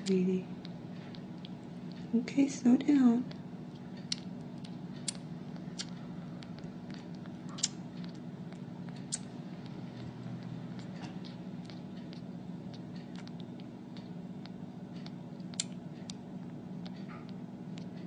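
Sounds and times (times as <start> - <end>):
kitten suckling wet clicks: 0.0 - 2.1, 2.7 - 18.0
low background hum: 0.0 - 18.0.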